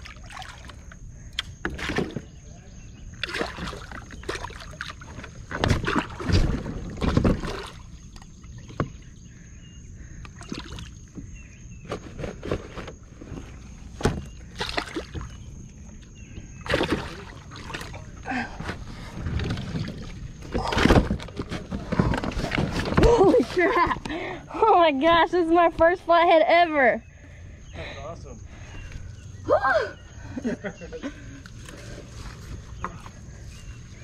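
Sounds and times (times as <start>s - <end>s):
water sloshing around boat: 0.0s - 27.6s, 30.6s - 34.0s.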